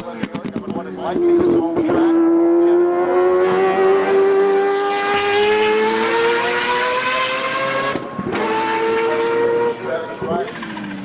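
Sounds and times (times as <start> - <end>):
race car engine accelerating: 0.7 - 11.0.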